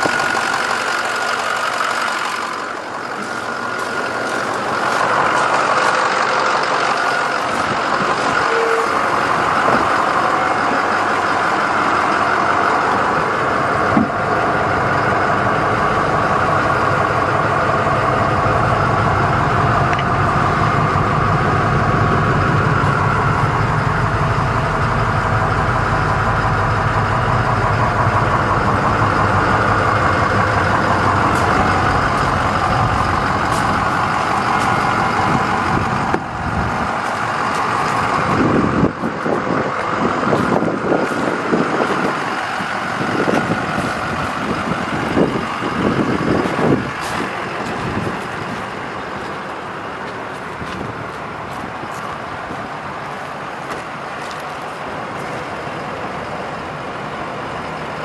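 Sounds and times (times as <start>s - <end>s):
engine knock: 0.0s - 55.8s
diesel engine idling: 0.0s - 58.0s.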